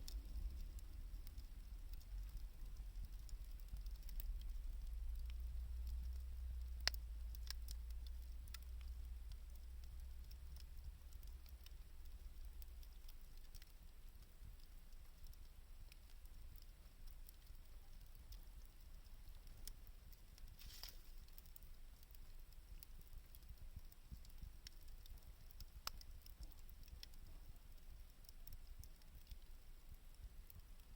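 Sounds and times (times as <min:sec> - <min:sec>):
low rumble of fire: 0:00.0 - 0:30.9
wood fire crackling and popping: 0:00.0 - 0:30.9.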